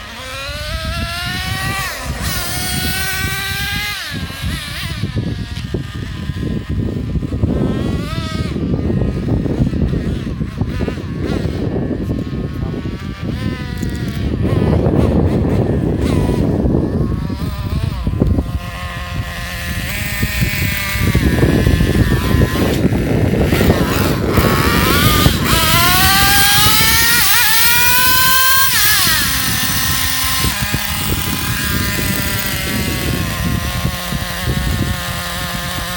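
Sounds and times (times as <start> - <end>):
small engine revving: 0.0 - 35.9.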